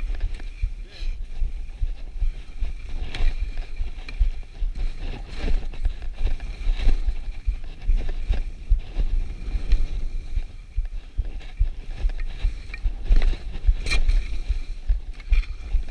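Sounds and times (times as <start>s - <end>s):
skis scraping over snow: 0.0s - 15.9s
wind buffeting microphone: 0.0s - 15.9s.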